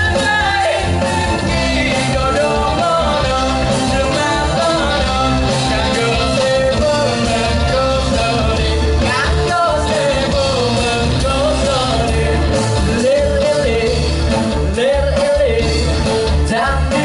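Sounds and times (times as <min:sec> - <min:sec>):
lead singer singing: 0:00.0 - 0:17.0
live rock band playing: 0:00.0 - 0:17.0.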